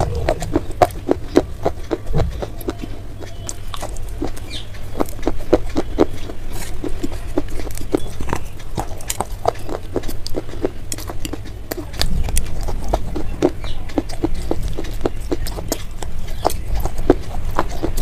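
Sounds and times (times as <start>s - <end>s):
steady low hum: 0.0s - 18.0s
stone being crunched and chewed: 0.0s - 18.0s.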